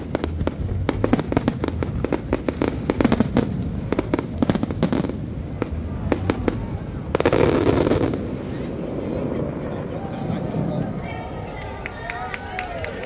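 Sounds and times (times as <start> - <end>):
fireworks bangs and crackles: 0.0 - 12.1.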